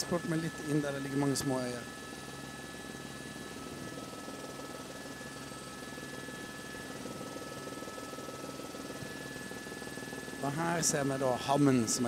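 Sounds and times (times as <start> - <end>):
helicopter engine and rotors: 0.0 - 12.0.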